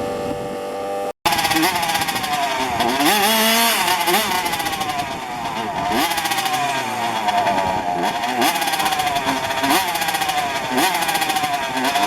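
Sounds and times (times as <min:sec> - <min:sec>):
rc car engines revving: 0:01.3 - 0:12.0.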